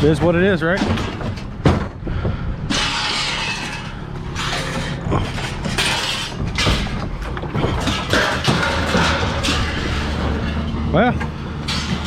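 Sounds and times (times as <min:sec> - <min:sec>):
diesel engine running: 0:00.0 - 0:12.0
scrap metal scraping and clanking: 0:00.0 - 0:12.0.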